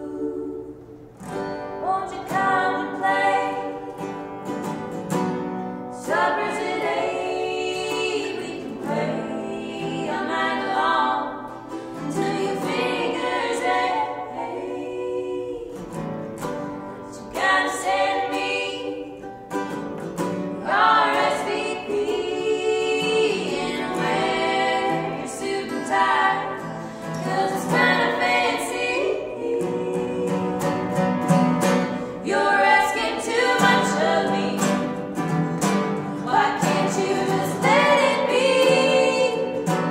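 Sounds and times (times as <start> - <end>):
women singing: 0.0 - 4.8, 5.8 - 39.9
acoustic guitar: 0.0 - 39.9
strummed ukulele: 0.0 - 39.9.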